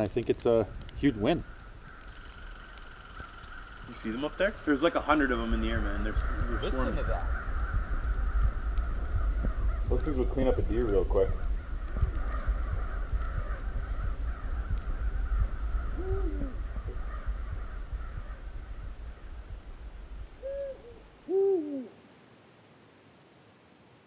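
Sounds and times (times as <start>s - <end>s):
low wind rumble: 0.0s - 22.0s
low arched bird calls: 0.4s - 22.0s.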